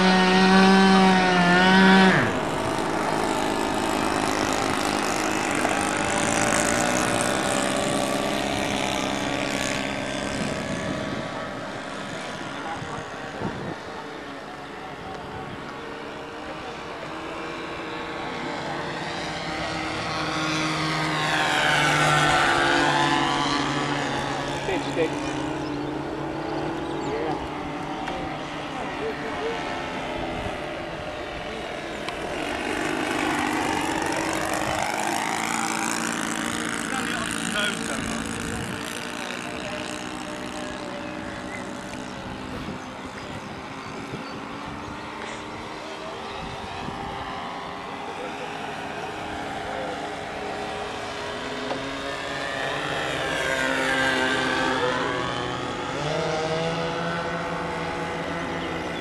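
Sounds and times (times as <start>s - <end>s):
model plane propeller drone: 0.0s - 59.0s.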